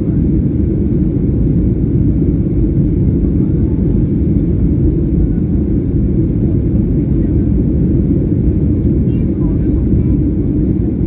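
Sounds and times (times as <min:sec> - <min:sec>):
jet airliner engine rumble: 0:00.0 - 0:11.0.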